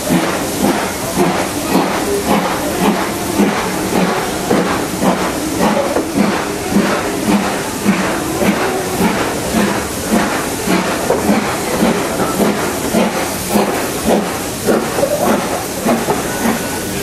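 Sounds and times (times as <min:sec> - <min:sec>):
steam hissing: 0:00.0 - 0:17.0
steam locomotive chuffing: 0:00.0 - 0:17.0.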